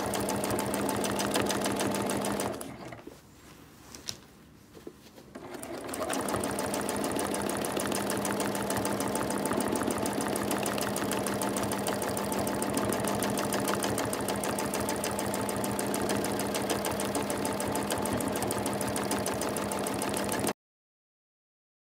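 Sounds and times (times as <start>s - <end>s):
sewing machine needle clatter: 0.0s - 3.0s, 5.3s - 20.6s
sewing machine motor hum: 0.0s - 3.1s, 5.3s - 20.6s.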